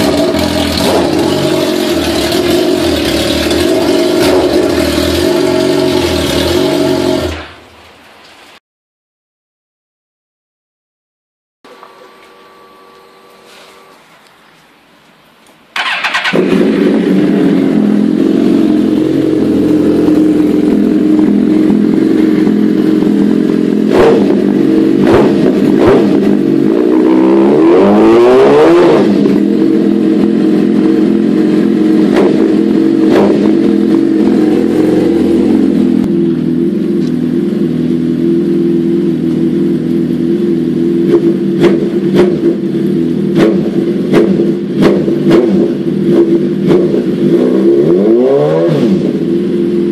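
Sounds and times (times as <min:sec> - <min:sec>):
motorcycle engine idling and revving: 0:00.0 - 0:07.7, 0:15.8 - 0:49.9.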